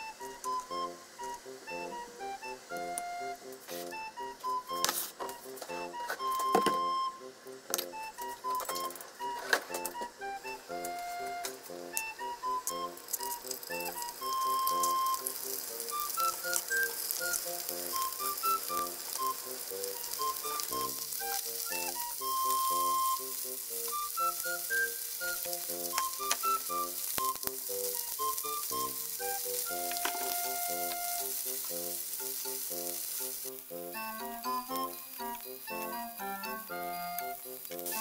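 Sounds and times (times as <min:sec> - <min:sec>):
fish sizzling in frying pan: 0:00.0 - 0:38.0.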